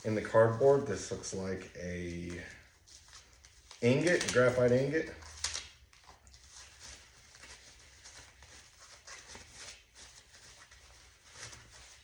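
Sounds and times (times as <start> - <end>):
cardboard packing rustling: 0.2 - 12.0.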